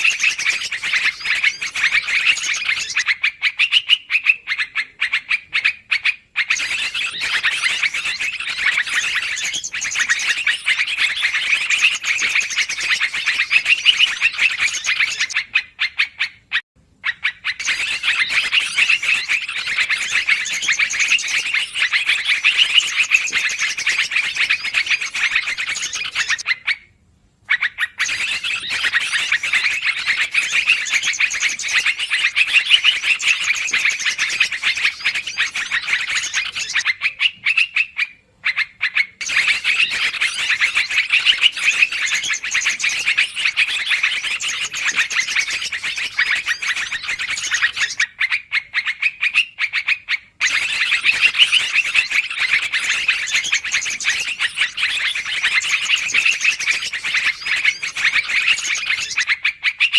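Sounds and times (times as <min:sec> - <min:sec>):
bulbuls chattering noisily: 0:00.0 - 0:15.8, 0:17.0 - 0:26.5, 0:27.7 - 0:48.0, 0:50.4 - 0:59.4.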